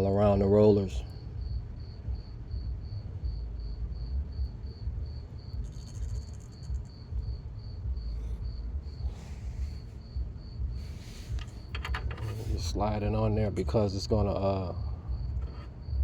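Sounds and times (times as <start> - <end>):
insect chirping: 0.0 - 16.0
low rumble: 0.2 - 16.0.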